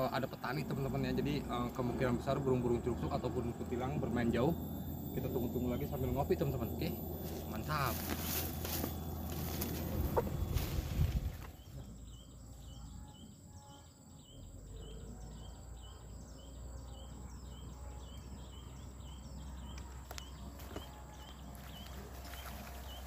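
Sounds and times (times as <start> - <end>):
low outdoor rumble: 0.0 - 13.4, 14.2 - 23.0
bird high chirp: 3.1 - 23.0.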